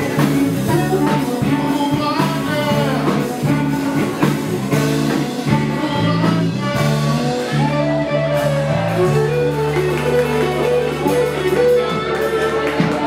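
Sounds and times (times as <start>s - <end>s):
bass line: 0.0s - 13.0s
electric guitar melody: 0.0s - 13.0s.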